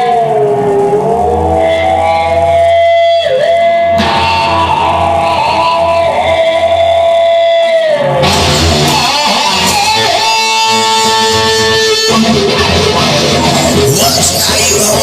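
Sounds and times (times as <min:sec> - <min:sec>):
electric guitar lead notes: 0:00.0 - 0:15.0
rock band playing: 0:01.8 - 0:15.0.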